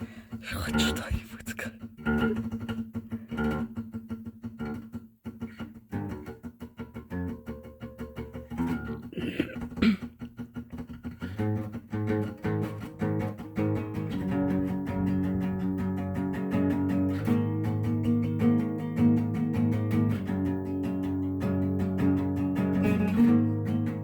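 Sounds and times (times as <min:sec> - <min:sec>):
plucked guitar notes: 0:01.8 - 0:24.0.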